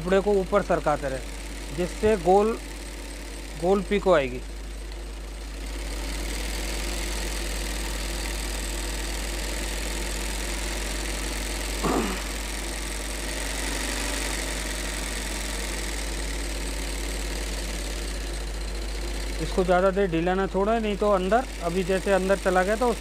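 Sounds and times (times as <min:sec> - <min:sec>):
embroidery machine running: 0:00.0 - 0:23.0.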